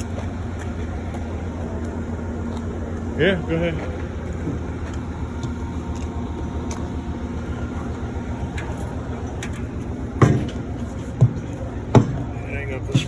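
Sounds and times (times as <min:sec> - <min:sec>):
train coach low rumble: 0:00.0 - 0:13.0.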